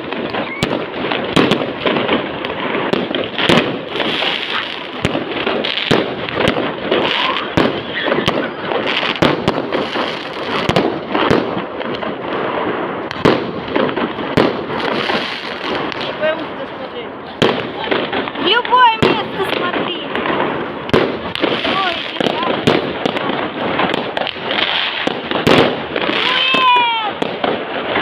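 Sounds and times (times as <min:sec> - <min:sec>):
firework bangs: 0:00.0 - 0:28.0
firework crackling: 0:00.0 - 0:28.0.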